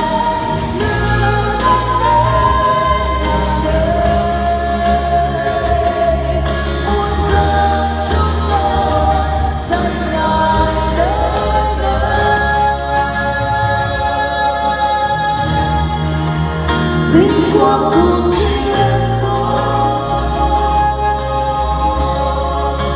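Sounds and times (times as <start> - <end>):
accompaniment with bass line: 0.0 - 22.9
vocal trio singing in harmony: 0.0 - 22.9.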